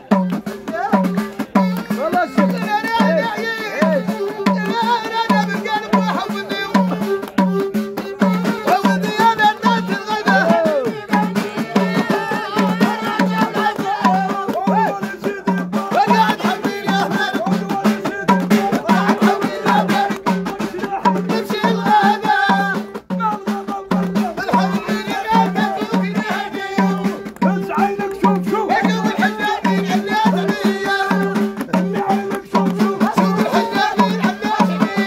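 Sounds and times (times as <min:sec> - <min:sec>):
frame drums beating: 0:00.0 - 0:35.0
men singing together: 0:00.0 - 0:35.0
hand claps: 0:00.1 - 0:17.8, 0:18.5 - 0:21.9, 0:24.2 - 0:35.0.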